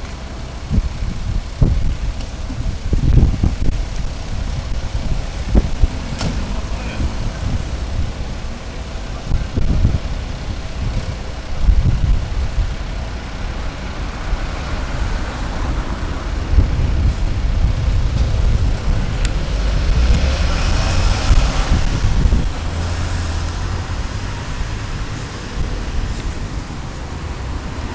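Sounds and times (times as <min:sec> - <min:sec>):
city traffic noise: 0:00.0 - 0:27.9
diesel engine pulling away: 0:00.0 - 0:27.9.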